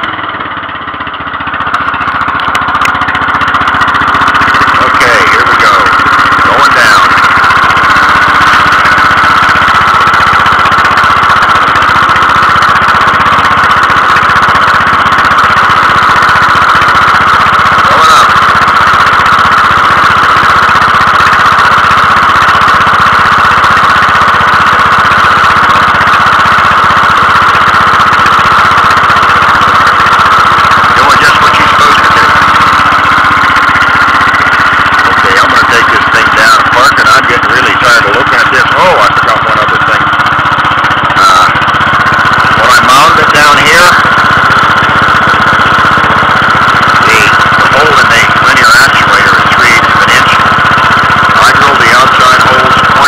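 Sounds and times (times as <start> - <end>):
constant high hum: 0.0 - 53.0
lawn tractor engine running: 0.0 - 53.0.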